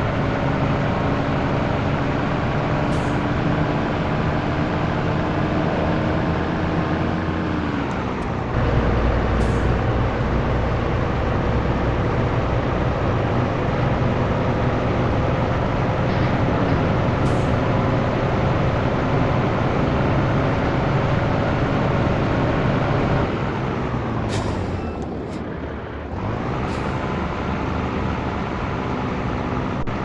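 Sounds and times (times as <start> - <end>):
truck diesel engine accelerating: 0.0 - 30.0.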